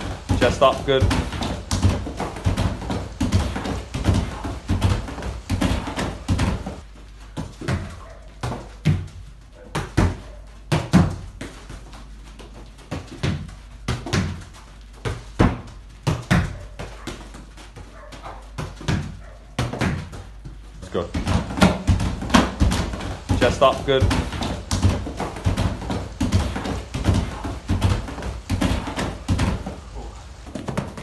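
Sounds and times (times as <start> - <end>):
football thudding against wall: 0.0 - 6.8, 9.8 - 11.9, 12.9 - 17.9, 18.5 - 29.8
footfalls on foam box: 0.0 - 31.0.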